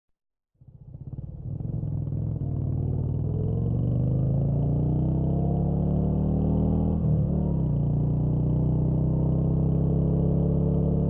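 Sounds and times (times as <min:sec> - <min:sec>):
motorcycle engine starting and running: 0:00.6 - 0:11.0.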